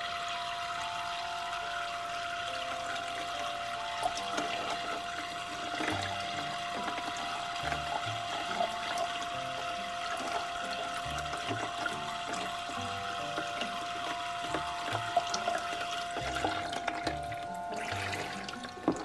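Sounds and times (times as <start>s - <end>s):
light background music: 0.0s - 19.0s.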